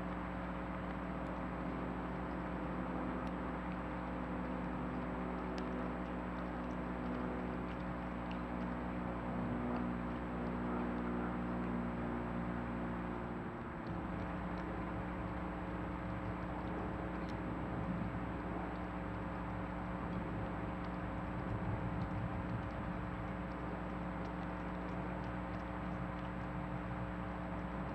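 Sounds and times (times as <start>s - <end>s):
faint ticks: 0.0s - 12.3s, 13.0s - 27.9s
low mechanical hum: 0.0s - 27.9s.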